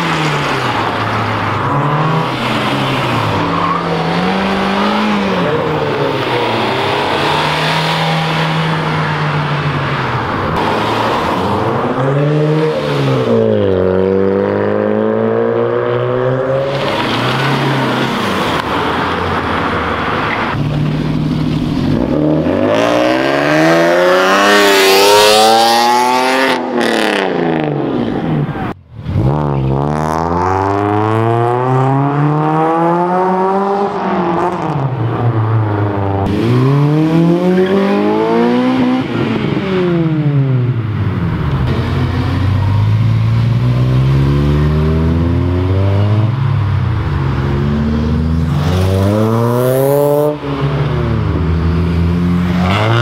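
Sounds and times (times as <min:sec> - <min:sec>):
car engines revving past: 0:00.0 - 0:53.0.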